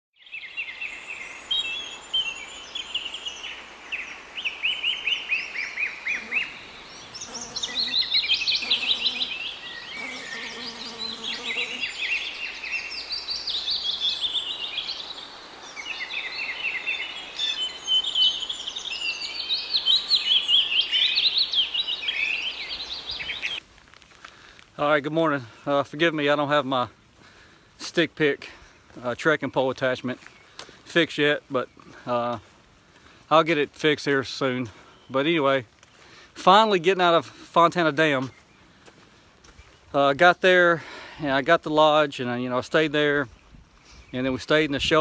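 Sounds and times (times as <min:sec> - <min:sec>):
songbirds chirping and trilling: 0:00.2 - 0:23.6, 0:24.8 - 0:45.0.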